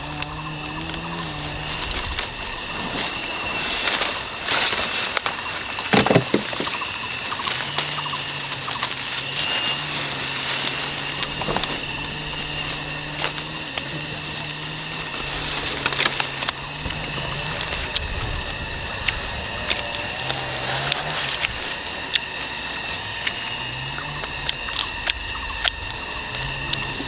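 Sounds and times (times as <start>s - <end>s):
leaves rustling: 0.0s - 27.0s
low steady hum: 0.0s - 27.0s
thin high whine: 0.0s - 27.0s
twigs snapping: 0.0s - 27.0s.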